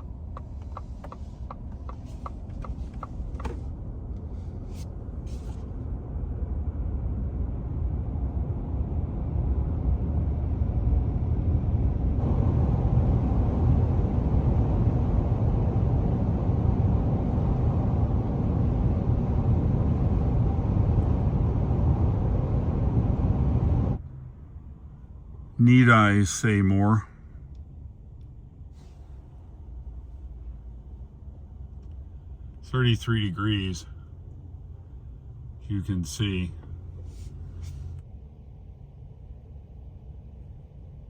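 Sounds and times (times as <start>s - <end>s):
road and wind noise: 0.0s - 41.0s.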